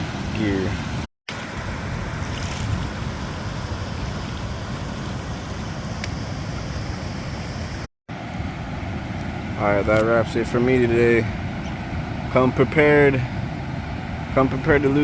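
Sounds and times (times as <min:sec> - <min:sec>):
moving water: 0:00.0 - 0:15.0.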